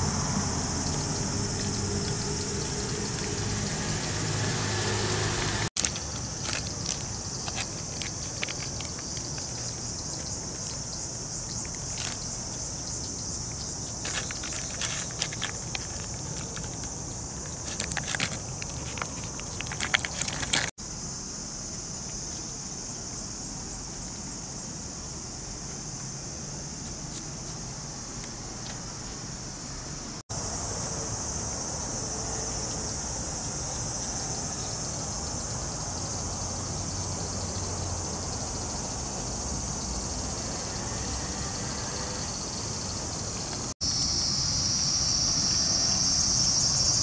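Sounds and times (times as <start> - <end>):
high drone of insects: 0.0 - 47.0.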